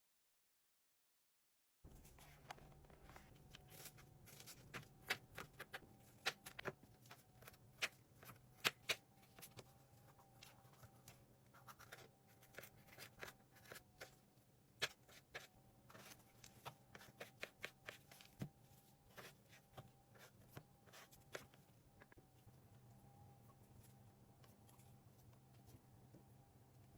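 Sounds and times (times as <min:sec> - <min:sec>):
faint steady hum: 0:01.9 - 0:26.9.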